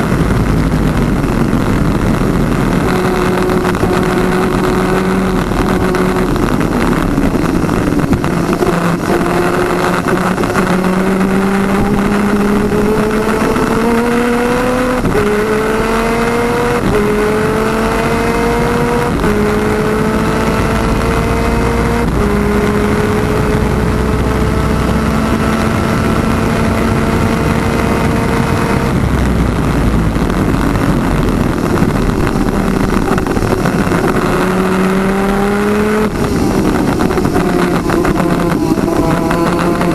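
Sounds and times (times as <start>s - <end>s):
kart engine revving through gears: 0.0s - 39.9s
rushing noise: 0.0s - 39.9s.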